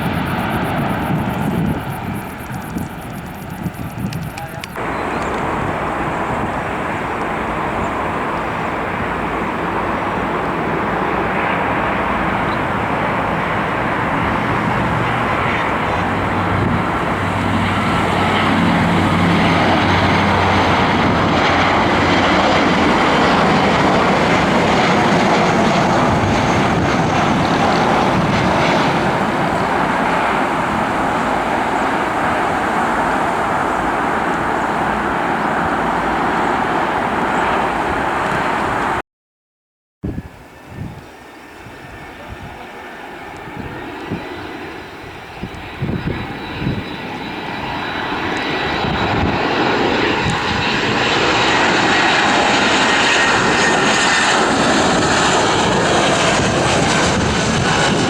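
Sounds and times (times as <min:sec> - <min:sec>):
jet airliner engines passing: 0:00.0 - 0:39.0, 0:40.1 - 0:58.0.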